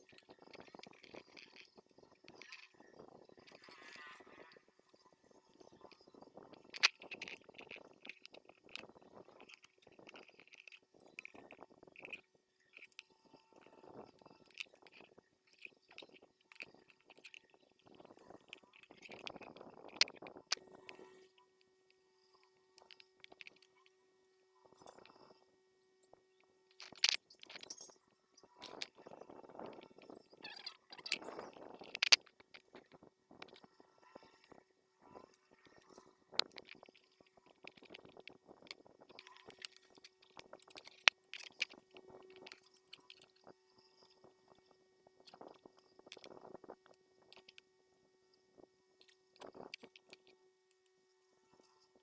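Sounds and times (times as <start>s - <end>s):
faint steady hum: 0.0s - 52.0s
small plastic clicks: 0.0s - 52.0s
small plastic ticks: 0.0s - 52.0s.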